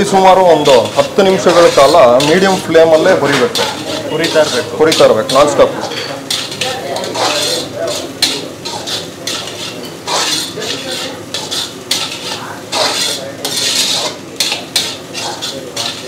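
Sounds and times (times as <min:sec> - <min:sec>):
metal spatula scraping metal pan: 0:00.0 - 0:16.0.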